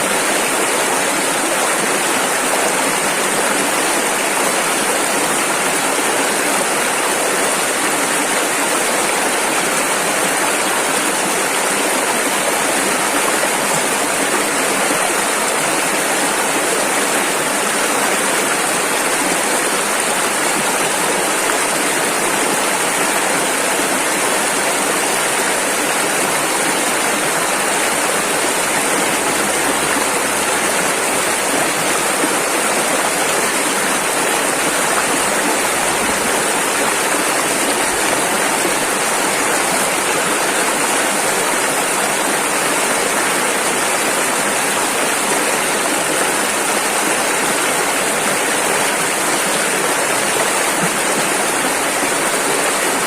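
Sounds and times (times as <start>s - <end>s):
river rushing over rapids: 0.0s - 53.0s.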